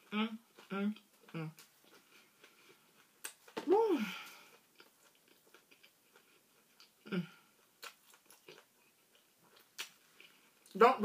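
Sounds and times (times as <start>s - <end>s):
person chewing food: 0.0s - 10.8s.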